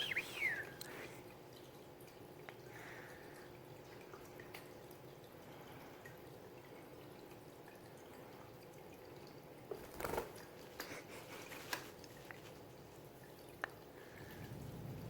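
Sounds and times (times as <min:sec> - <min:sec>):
faint hiss of water: 0:00.0 - 0:15.0.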